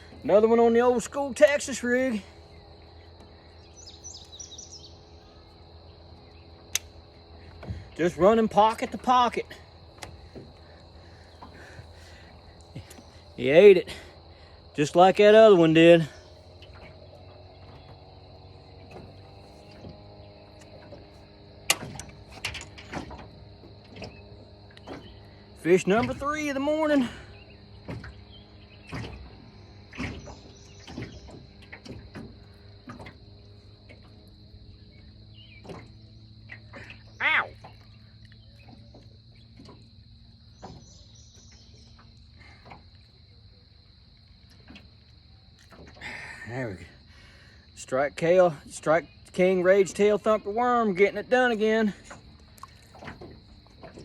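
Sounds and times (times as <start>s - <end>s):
faint steady hum: 0.0s - 54.0s
insects droning: 0.0s - 54.0s.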